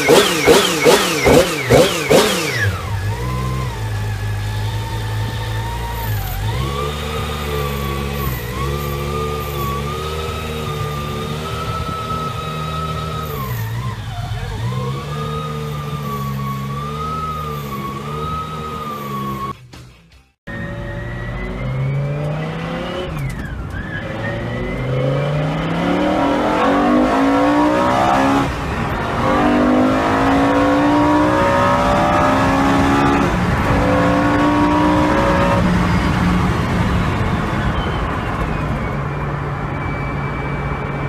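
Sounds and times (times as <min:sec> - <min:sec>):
sports car engine accelerating: 0:00.0 - 0:19.6, 0:20.5 - 0:41.0.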